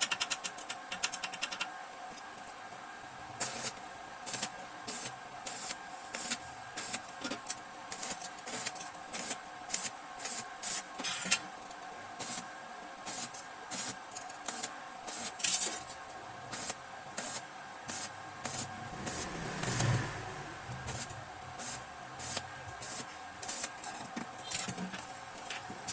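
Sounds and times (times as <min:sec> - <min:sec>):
steady hum: 0:01.8 - 0:25.9.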